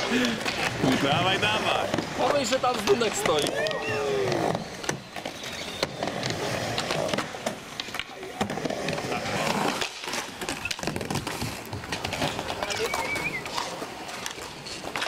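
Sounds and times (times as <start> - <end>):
skateboard clacks: 0.0 - 15.0
skateboard wheels rumbling: 0.0 - 15.0.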